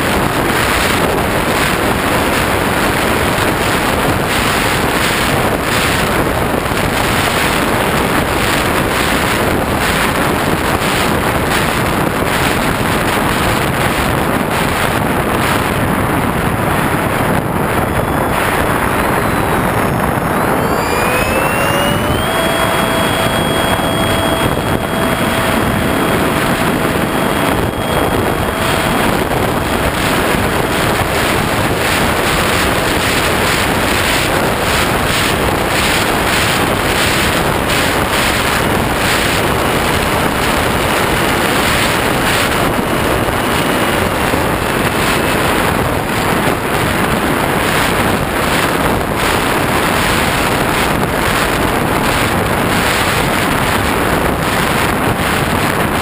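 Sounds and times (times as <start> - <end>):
ducted fan whine: 0.0 - 56.0
loud wind rush: 0.0 - 56.0.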